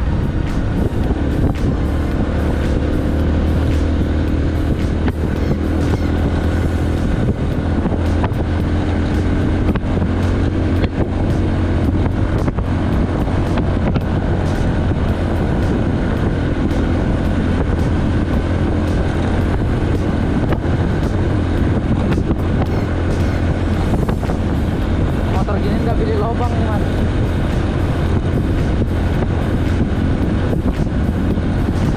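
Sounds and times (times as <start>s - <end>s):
vehicle engine droning: 0.0s - 31.9s.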